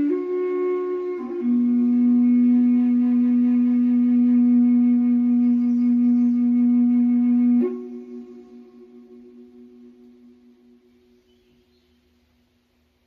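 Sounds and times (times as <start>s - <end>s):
flute holding a low note: 0.0s - 11.8s.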